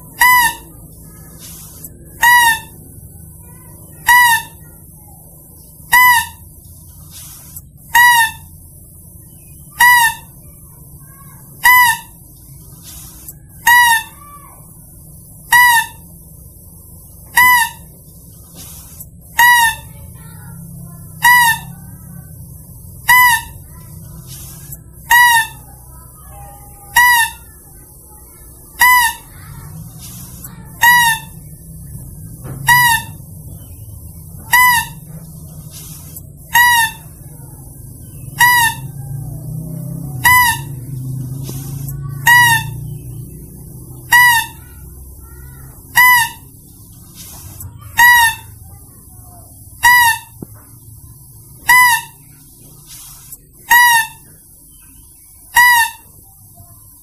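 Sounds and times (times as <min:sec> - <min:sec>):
faint low hum: 0:00.0 - 0:57.0
animal lure call: 0:00.1 - 0:16.2, 0:17.2 - 0:50.4, 0:51.2 - 0:57.0.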